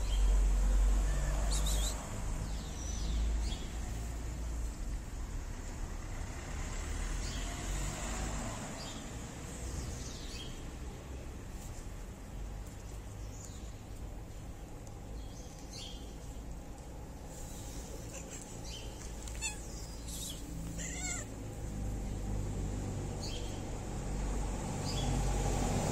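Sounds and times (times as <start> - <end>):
distant traffic rumble: 0.0 - 25.9.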